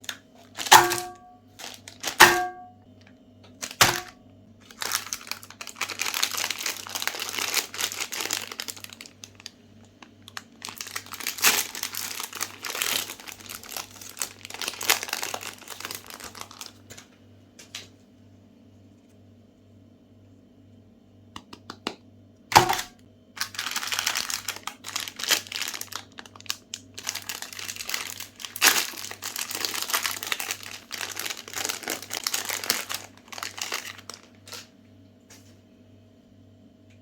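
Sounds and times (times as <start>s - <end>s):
plastic wrappers crinkling and tearing: 0.0s - 17.9s, 22.5s - 34.8s.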